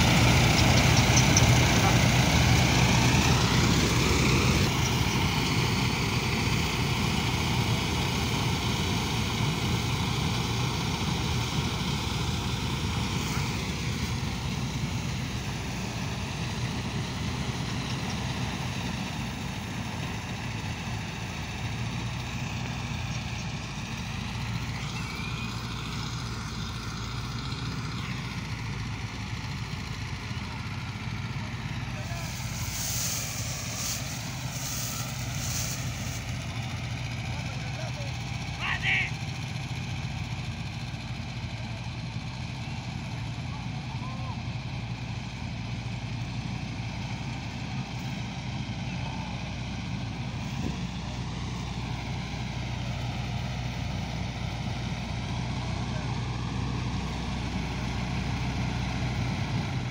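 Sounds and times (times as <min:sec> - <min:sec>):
combine harvester drone: 0:00.0 - 0:59.9.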